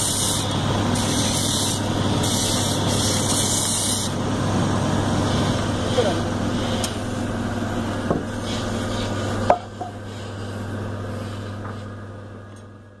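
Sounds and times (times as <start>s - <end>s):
wood lathe humming: 0.0s - 11.8s.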